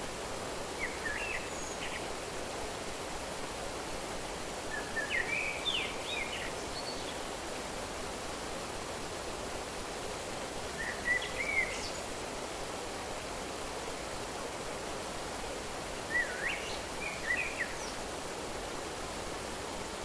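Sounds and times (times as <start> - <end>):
running water hiss: 0.0 - 20.0.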